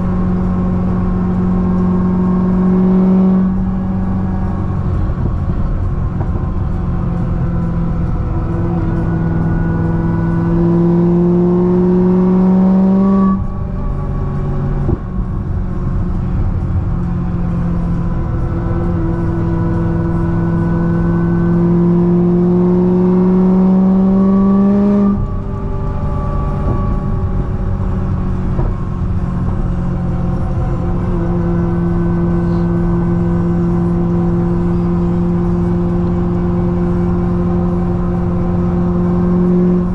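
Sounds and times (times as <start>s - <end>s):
supercharged car engine accelerating: 0.0s - 39.9s.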